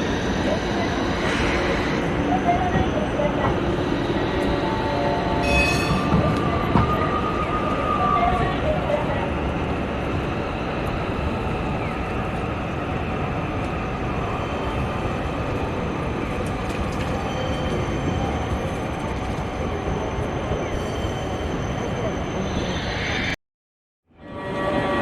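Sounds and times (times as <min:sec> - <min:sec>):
streetcar running on tracks: 0:00.0 - 0:23.4, 0:24.1 - 0:25.0.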